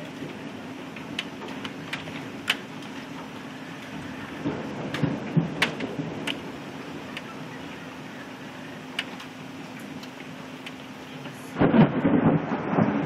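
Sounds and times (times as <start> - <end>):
hailstones ticking on hard surface: 0.0 - 13.0
heavy rain and hail: 0.0 - 13.0
low rumble: 0.0 - 13.0.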